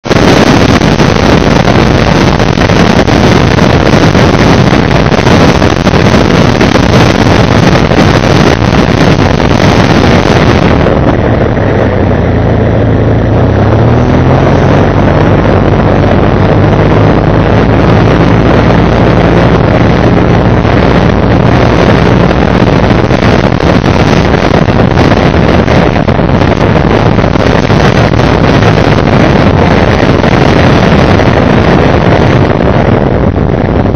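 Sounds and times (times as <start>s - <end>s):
motorcycle engine hum: 0.0s - 33.9s
wind rushing over microphone: 0.0s - 33.9s.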